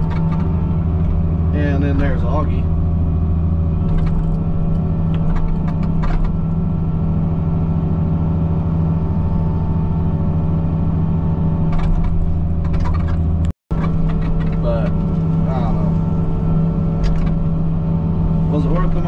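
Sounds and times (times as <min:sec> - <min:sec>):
diesel engine and hydraulic cutter: 0:00.0 - 0:19.0.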